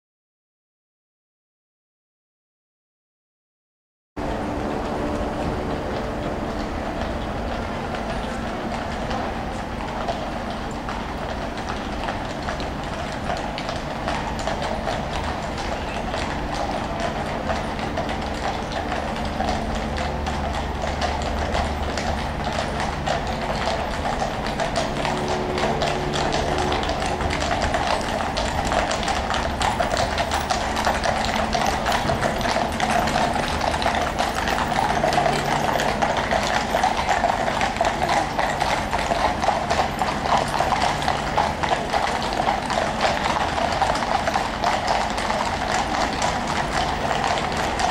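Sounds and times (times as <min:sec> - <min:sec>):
low steady hum: 0:04.2 - 0:47.8
horses hooves clip-clopping on tarmac: 0:04.2 - 0:47.9.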